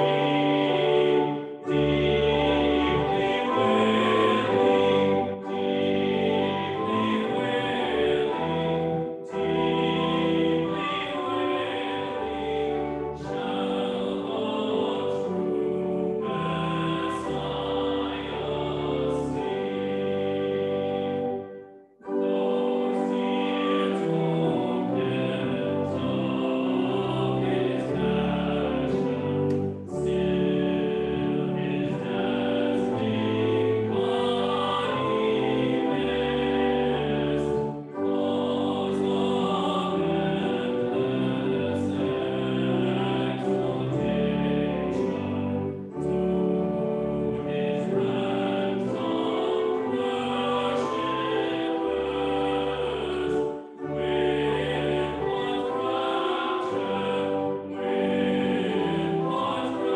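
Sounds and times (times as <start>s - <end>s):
pipe organ: 0.0s - 59.9s
voices singing a hymn: 0.0s - 59.9s.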